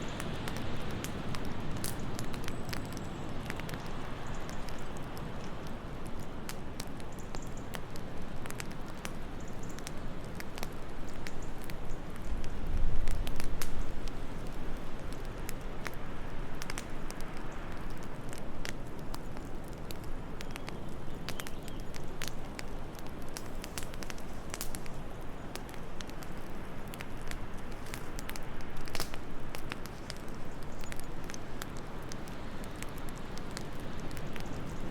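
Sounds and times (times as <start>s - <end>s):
low rush of wind: 0.0s - 34.9s
wood fire crackling and popping: 0.0s - 34.9s.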